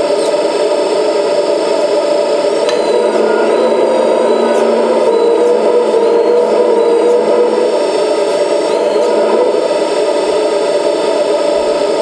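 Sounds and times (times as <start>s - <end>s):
hydraulic pump whining hum: 0.0s - 12.0s
simulated engine noise: 0.0s - 12.0s.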